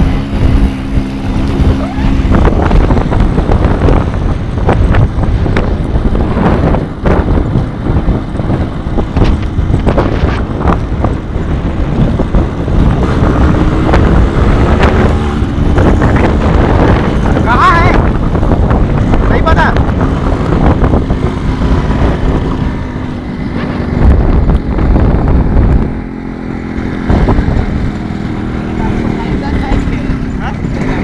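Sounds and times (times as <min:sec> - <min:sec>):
two-stroke motorcycle engine: 0:00.0 - 0:31.0
wind buffeting on microphone: 0:00.0 - 0:31.0.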